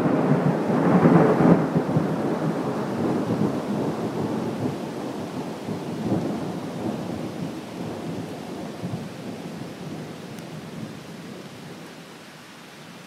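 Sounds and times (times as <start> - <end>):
thunder rumbling: 0.0 - 11.5
steady rain: 0.0 - 13.0.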